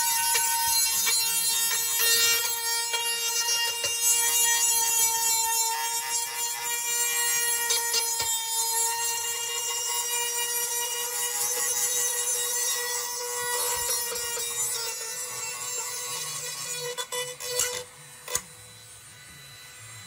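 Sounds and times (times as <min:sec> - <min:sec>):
rotary tool grinding metal: 0:00.0 - 0:20.0.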